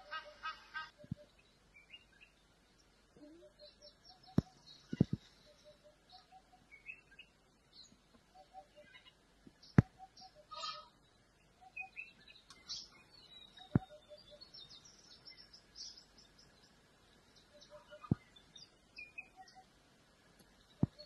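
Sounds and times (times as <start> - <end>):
wild birds chirping and calling: 0.0 - 21.0.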